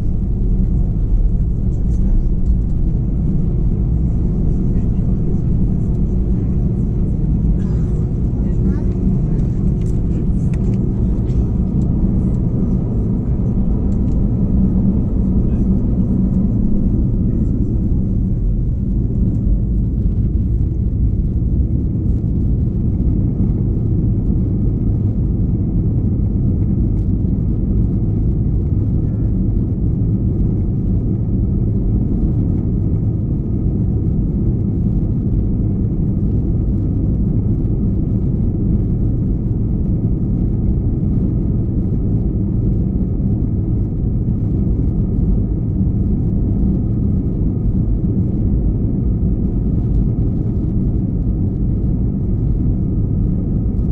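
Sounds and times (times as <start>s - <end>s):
airplane cabin rumble: 0.0s - 53.9s.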